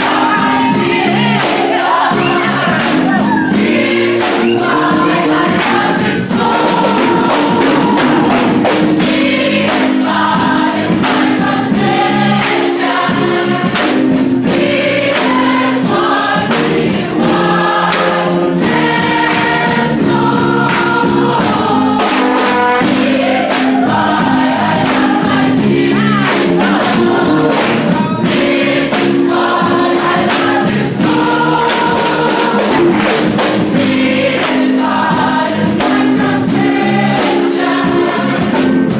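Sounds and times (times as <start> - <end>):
choir singing gospel song: 0.0 - 38.9
instrumental accompaniment with beat: 0.0 - 38.9.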